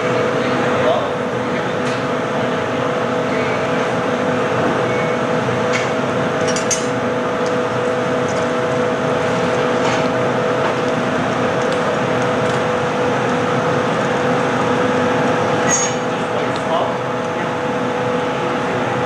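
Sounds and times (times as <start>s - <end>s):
furnace roar: 0.0s - 19.0s.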